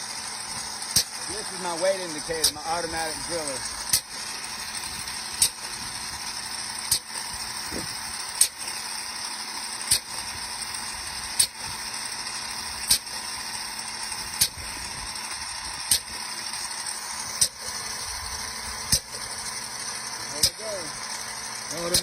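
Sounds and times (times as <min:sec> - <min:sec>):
sharp mechanical clicking: 0:00.3 - 0:22.0.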